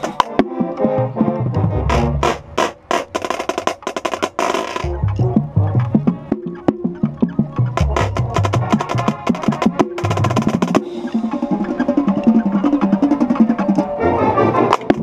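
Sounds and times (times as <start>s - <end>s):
marching bass drum notes: 0.0s - 13.9s
drumline strokes: 0.0s - 15.0s
marching band chords: 0.0s - 15.0s.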